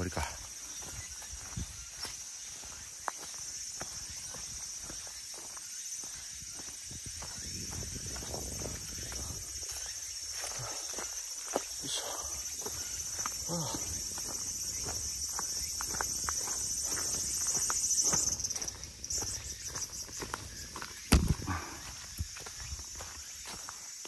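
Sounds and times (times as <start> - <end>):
high-pitched insect drone: 0.0 - 24.0
footsteps: 0.8 - 23.9.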